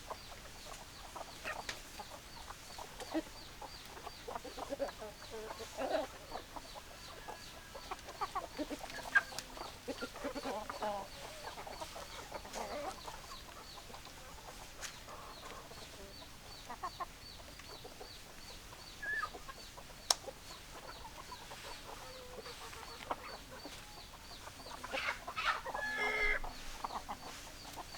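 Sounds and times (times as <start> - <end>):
hens clucking: 0.0 - 27.9.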